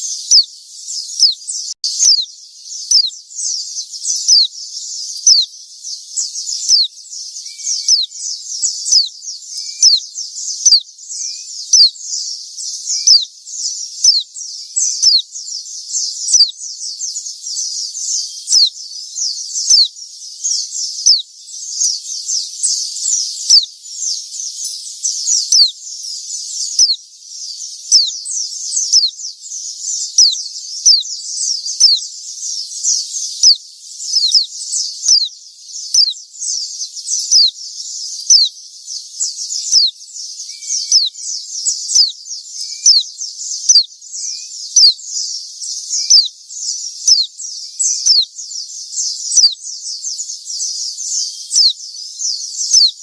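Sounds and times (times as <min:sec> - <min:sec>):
birds twittering: 0:00.0 - 0:53.0.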